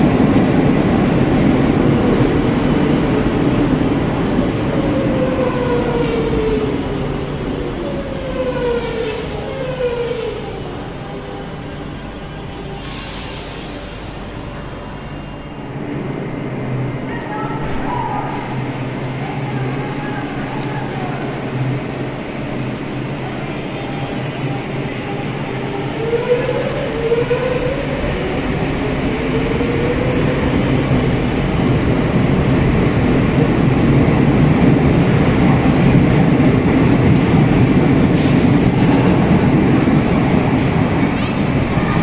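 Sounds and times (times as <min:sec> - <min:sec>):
train hum: 0:00.0 - 0:42.0.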